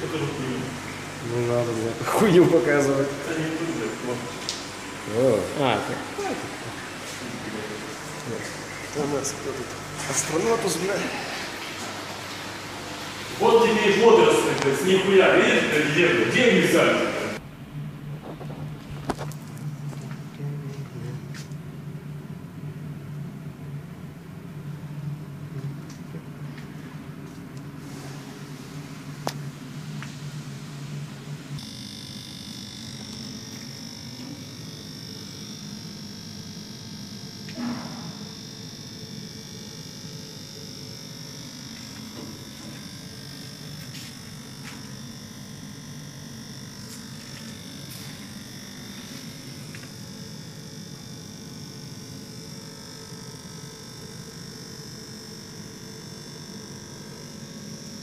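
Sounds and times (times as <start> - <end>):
aquarium filter hum and bubbling: 0.0 - 58.0.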